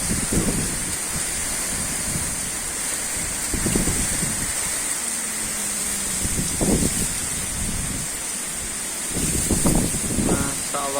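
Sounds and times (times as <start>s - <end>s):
strong wind rushing: 0.0s - 10.7s
wind buffeting microphone: 0.0s - 10.8s.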